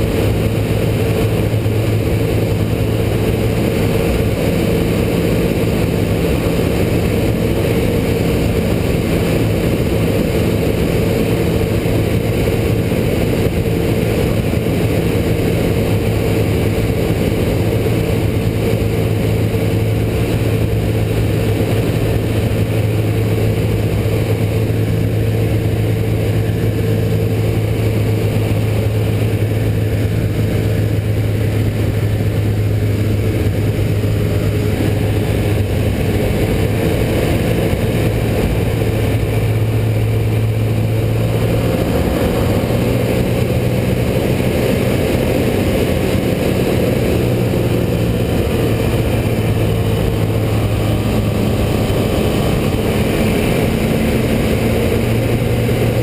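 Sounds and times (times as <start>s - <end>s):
aircraft engine and propeller: 0.0s - 56.0s
rushing air noise: 0.0s - 56.0s.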